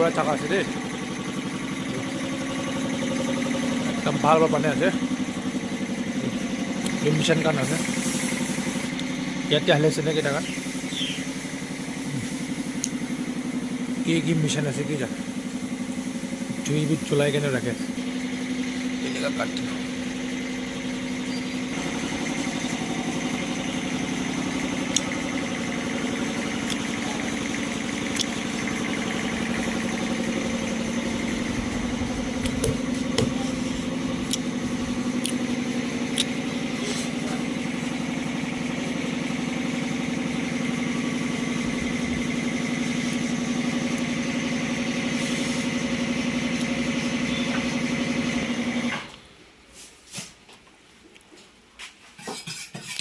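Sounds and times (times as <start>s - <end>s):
machine motor humming: 0.0s - 49.2s.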